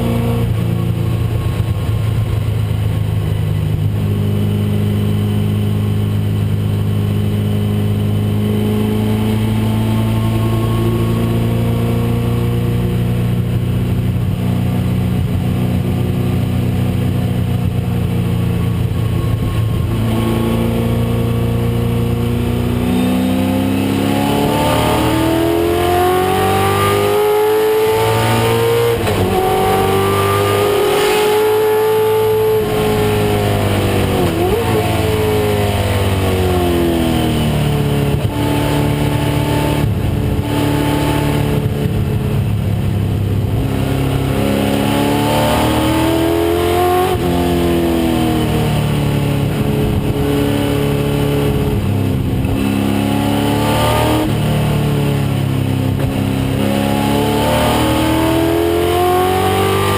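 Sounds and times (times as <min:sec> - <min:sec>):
race car engine revving: 0:03.8 - 0:59.9.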